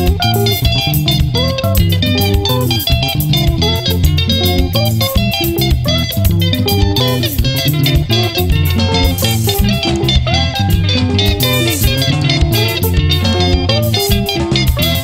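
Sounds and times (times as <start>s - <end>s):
bass guitar: 0.0s - 15.0s
electric guitar melodic lines: 0.0s - 15.0s
steady drum beat: 0.0s - 15.0s.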